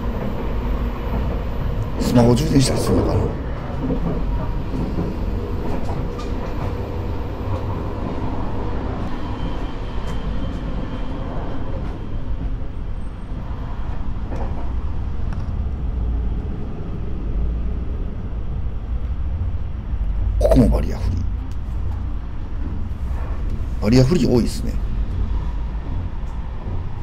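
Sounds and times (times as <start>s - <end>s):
train low rumble: 0.0s - 27.0s.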